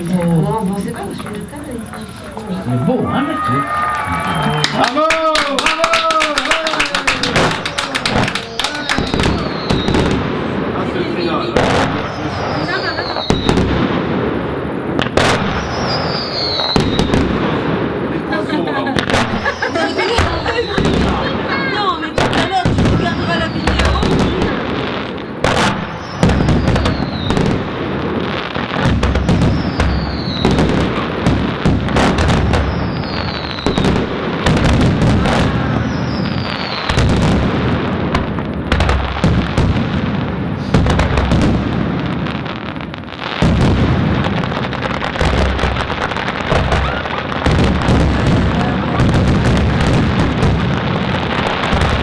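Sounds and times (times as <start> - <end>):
fireworks bangs: 0.0 - 52.0
fireworks crackle: 0.0 - 52.0
falling firework whistle: 1.1 - 10.5, 11.1 - 14.1, 15.0 - 39.7, 44.8 - 52.0.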